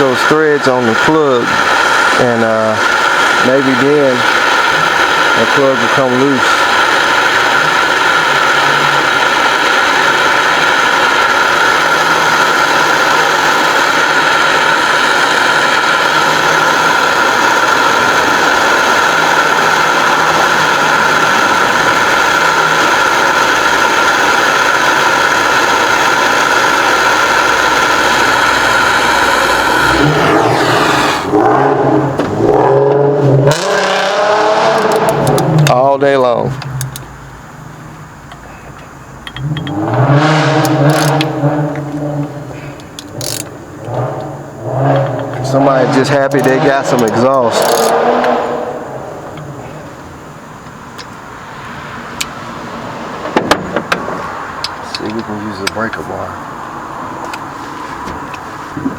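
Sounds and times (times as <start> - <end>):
car engine revving with loud exhaust: 0.0 - 58.9.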